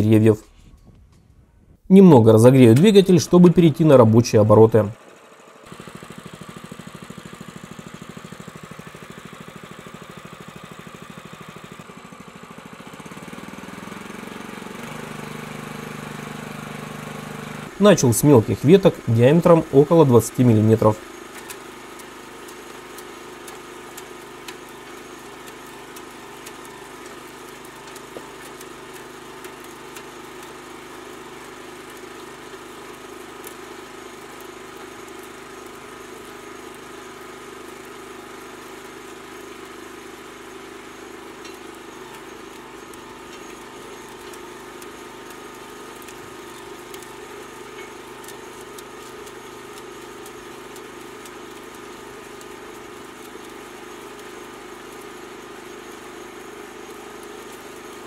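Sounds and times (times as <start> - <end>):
small petrol engine running: 2.1 - 58.0
branches cracking in shredder: 2.3 - 58.0.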